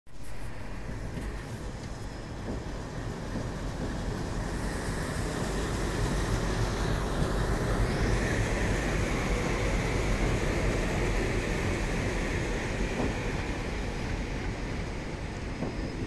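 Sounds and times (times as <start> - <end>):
diesel train passing: 0.2 - 16.0.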